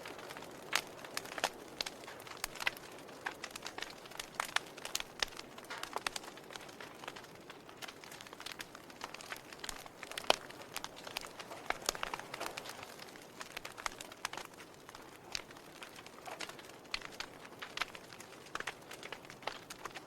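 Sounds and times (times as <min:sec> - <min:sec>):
log fire crackling: 0:00.0 - 0:20.0.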